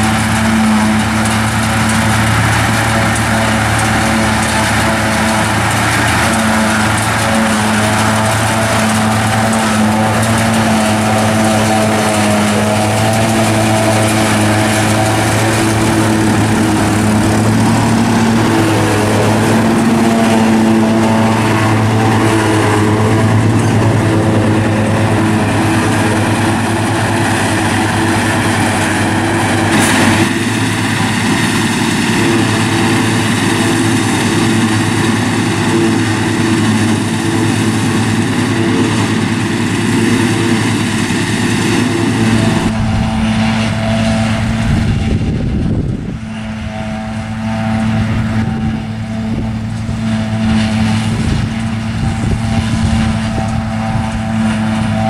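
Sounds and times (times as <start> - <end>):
diesel engine drone: 0.0 - 55.0
harvester chopper humming: 0.0 - 55.0.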